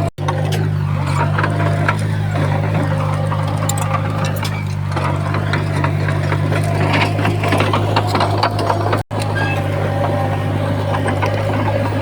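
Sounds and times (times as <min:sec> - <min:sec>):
bulldozer diesel engine running: 0:00.0 - 0:12.0
clicks and clanks of tracks: 0:00.0 - 0:12.0.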